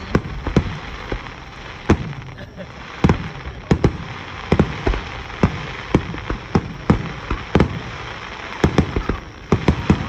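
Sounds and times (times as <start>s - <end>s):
crackle of burning fireworks: 0.0s - 10.0s
fireworks bangs: 0.0s - 10.0s.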